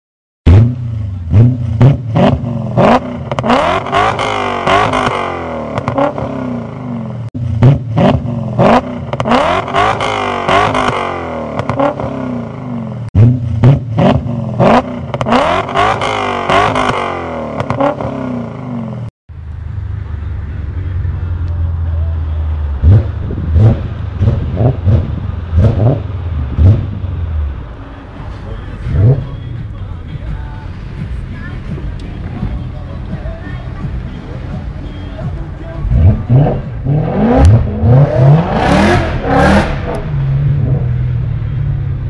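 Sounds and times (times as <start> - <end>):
car engine revving: 0.5 - 42.0.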